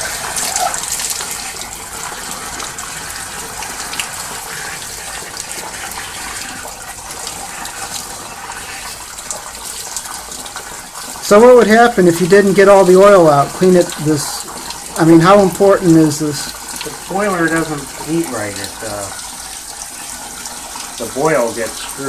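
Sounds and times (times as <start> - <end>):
hose water spraying: 0.0 - 22.0.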